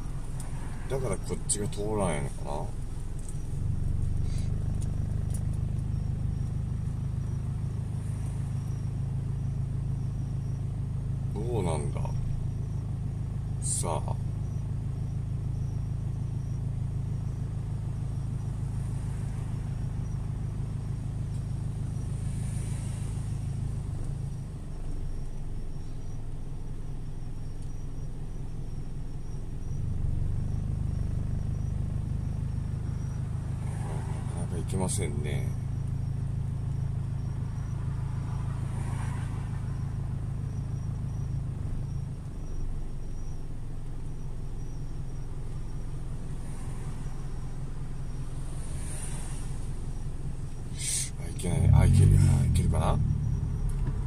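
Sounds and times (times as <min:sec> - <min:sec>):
passing vehicle road noise: 0:00.0 - 0:11.4, 0:17.6 - 0:26.4, 0:29.6 - 0:44.2, 0:45.1 - 0:54.0
car idling: 0:00.0 - 0:54.0.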